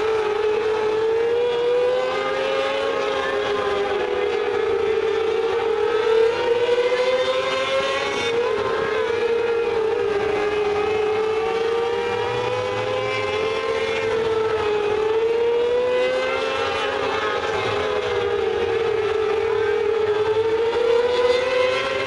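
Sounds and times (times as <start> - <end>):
race car engines whining: 0.0 - 22.0.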